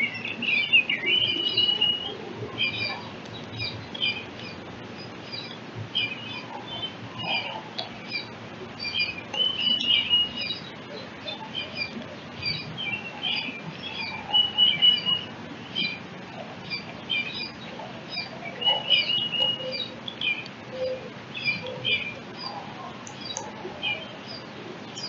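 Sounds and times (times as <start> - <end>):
long held bird notes: 0.0 - 25.0
songbirds chirping: 0.0 - 25.0.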